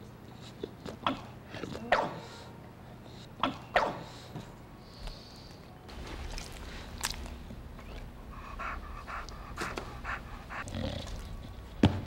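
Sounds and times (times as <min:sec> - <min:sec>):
dog panting: 0:00.0 - 0:11.9.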